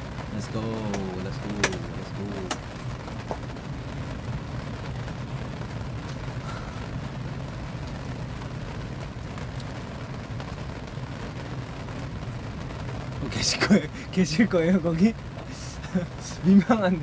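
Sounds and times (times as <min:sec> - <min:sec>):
steady rain rushing: 0:00.0 - 0:17.0.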